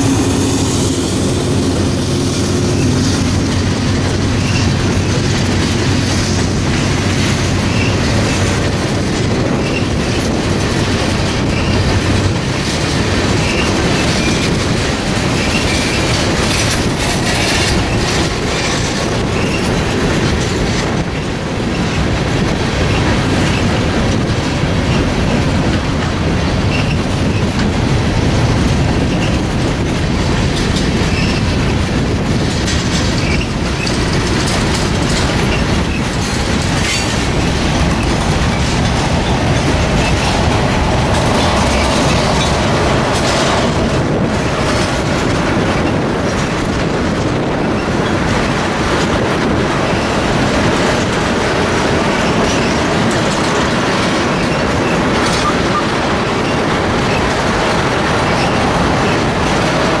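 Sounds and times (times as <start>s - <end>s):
train wheels rumbling and rattling: 0.0s - 60.0s
wheels clicking over track: 0.0s - 60.0s.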